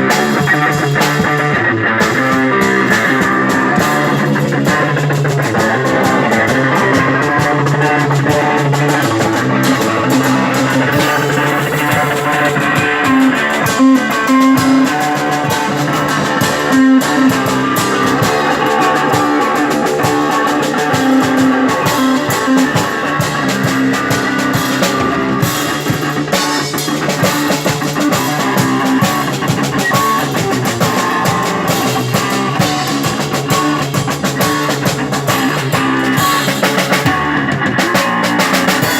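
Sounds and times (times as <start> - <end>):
distorted electric guitar: 0.0 - 38.9
drum kit drumming: 0.0 - 38.9.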